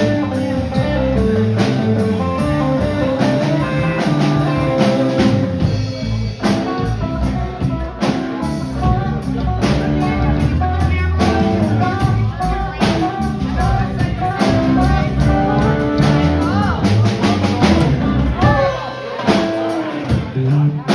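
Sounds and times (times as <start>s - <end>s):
drum kit: 0.0s - 20.9s
electric guitars: 0.0s - 20.9s.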